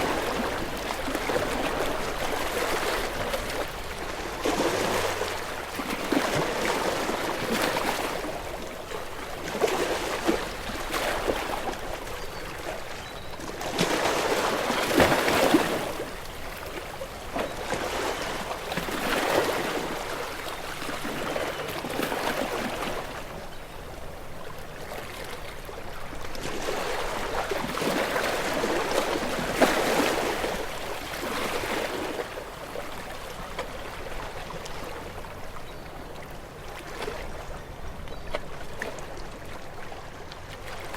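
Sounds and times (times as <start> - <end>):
ocean waves washing onto shore: 0.0 - 35.6.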